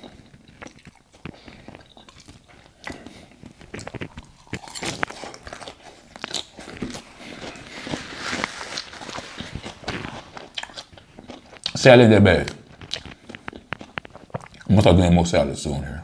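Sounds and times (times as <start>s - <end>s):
person chewing crunchy salad: 0.0s - 14.8s.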